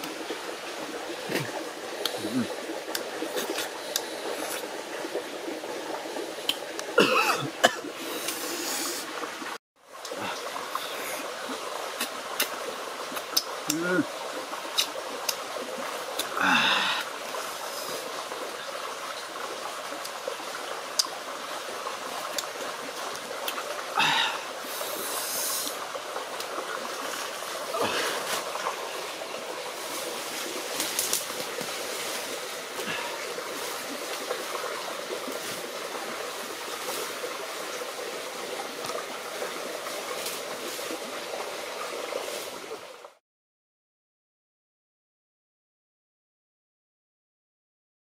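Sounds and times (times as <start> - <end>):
stream running: 0.0 - 43.2.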